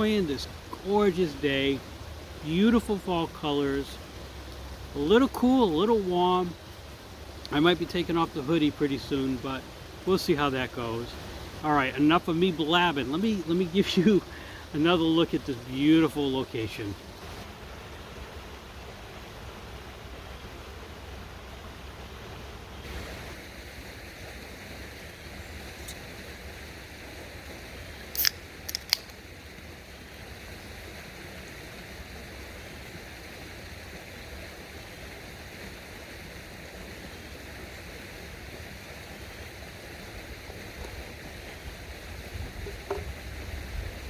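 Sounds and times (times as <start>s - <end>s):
rushing outdoor ambience: 0.0s - 44.0s.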